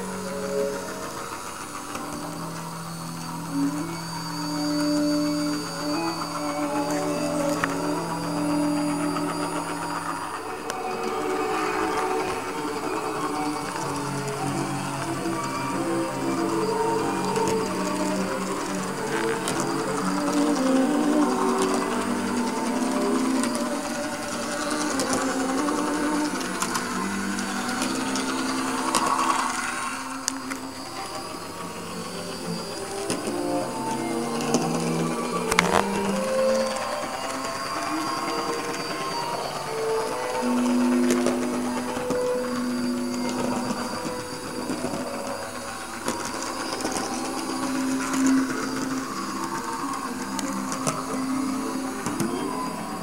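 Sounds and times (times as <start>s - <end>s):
model tram motor whining: 0.0s - 53.0s.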